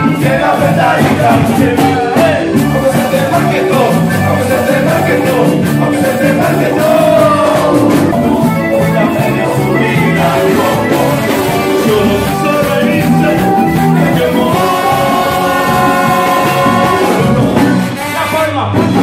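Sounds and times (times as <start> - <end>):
person singing: 0.0 - 18.3
live cumbia band playing: 0.0 - 19.0.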